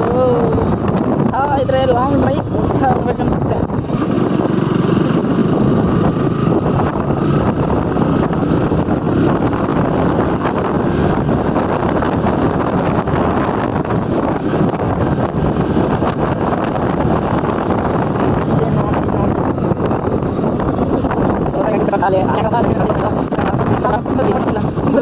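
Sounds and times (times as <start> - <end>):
motorbike running noise: 0.0 - 25.0
wind buffeting microphone: 0.0 - 25.0.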